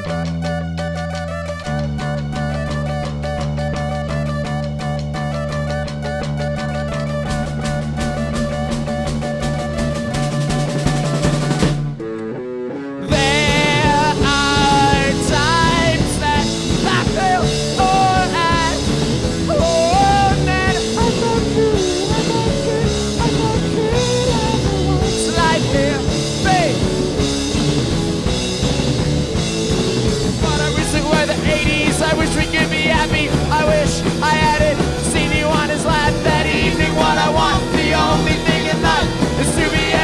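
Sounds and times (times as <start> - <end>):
rock band playing live: 0.0 - 40.0
wavering lead guitar melody: 0.0 - 40.0.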